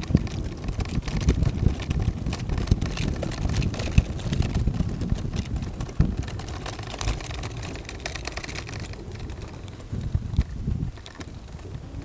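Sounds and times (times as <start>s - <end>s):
light clicking and rattling: 0.0s - 12.0s
wind buffeting microphone: 0.0s - 12.0s.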